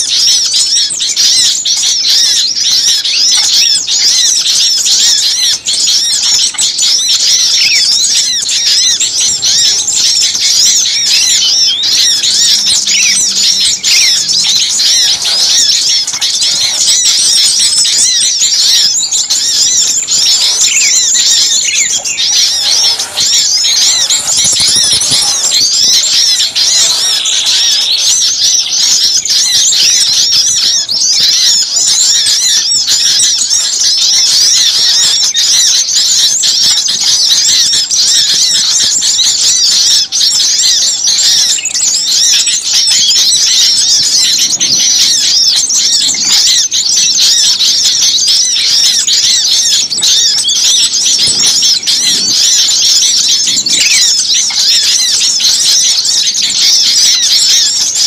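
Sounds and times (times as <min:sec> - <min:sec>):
chorus of songbirds chirping: 0:00.0 - 0:58.0.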